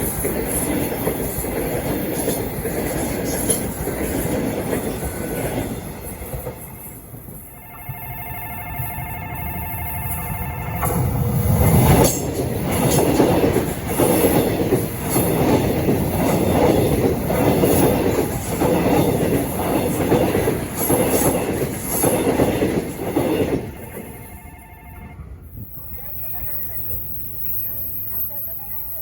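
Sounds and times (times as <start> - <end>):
crossing warning bell ringing: 0.0 - 29.0
train rumbling: 0.0 - 29.0.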